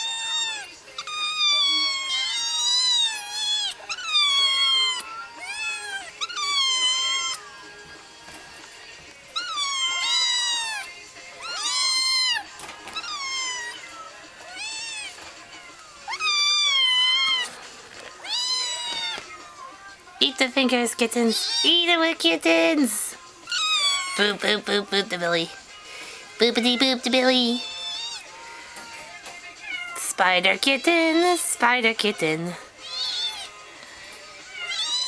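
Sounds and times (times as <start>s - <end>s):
kittens mewing: 0.0s - 35.0s.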